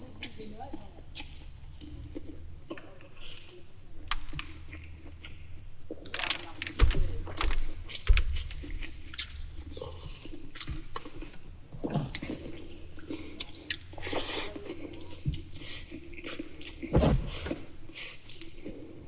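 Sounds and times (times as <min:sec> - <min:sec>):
close-up chewing: 0:00.0 - 0:19.0.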